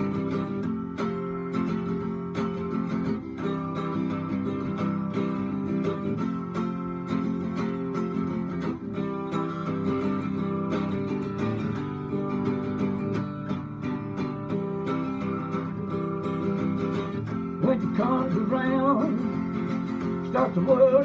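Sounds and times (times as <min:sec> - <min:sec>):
rock and roll guitar with beat: 0:00.0 - 0:21.0.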